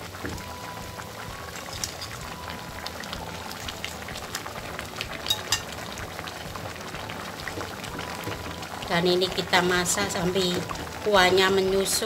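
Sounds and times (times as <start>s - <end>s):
sauce boiling with small pops: 0.0s - 12.0s.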